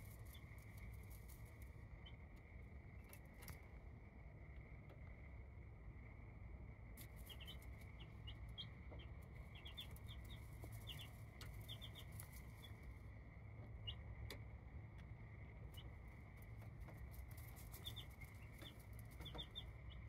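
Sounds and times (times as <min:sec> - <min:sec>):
baby chicks peeping: 0:00.0 - 0:03.8, 0:06.3 - 0:20.0.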